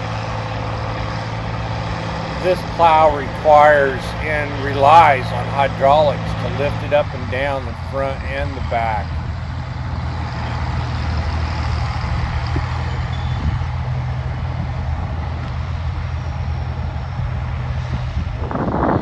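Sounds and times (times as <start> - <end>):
tractor engine under load: 0.0 - 17.9.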